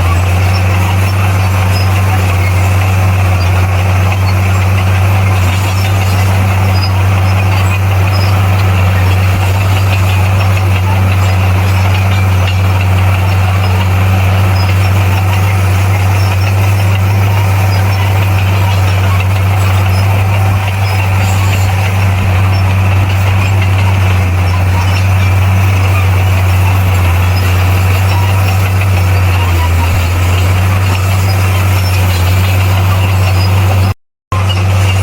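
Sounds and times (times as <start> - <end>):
bulldozer diesel engine humming: 0.0 - 35.0.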